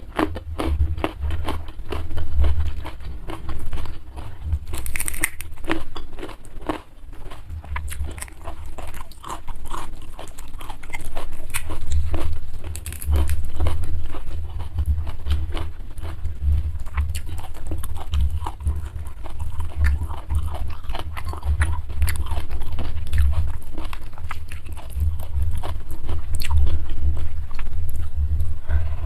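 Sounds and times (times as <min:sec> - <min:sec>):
person chewing and crunching food: 0:00.0 - 0:29.0.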